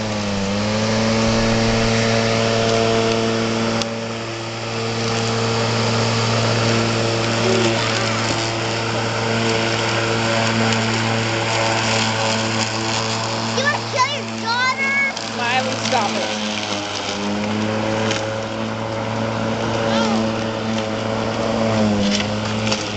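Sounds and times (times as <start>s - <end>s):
robotic lawn mower humming: 0.0s - 22.9s.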